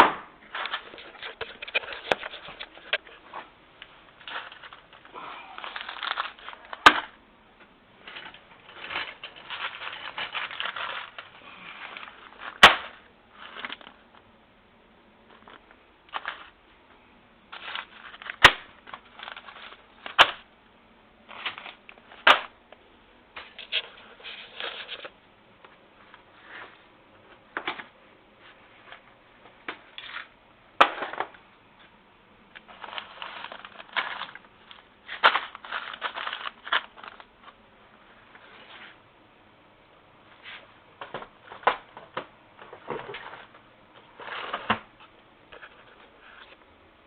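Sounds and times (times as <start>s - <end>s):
objects clattering and rustling: 0.4s - 14.3s, 15.2s - 16.6s, 17.5s - 20.5s, 21.3s - 22.6s, 23.3s - 37.6s, 40.4s - 46.7s.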